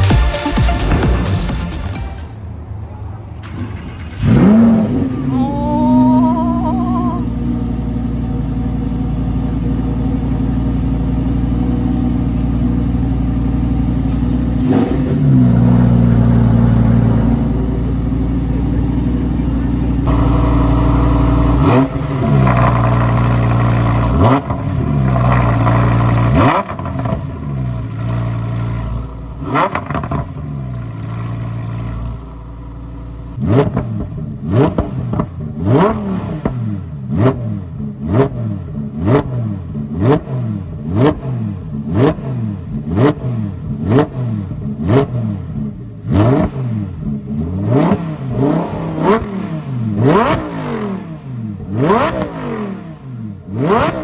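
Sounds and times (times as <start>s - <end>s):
sports car engine revving: 3.4s - 54.0s.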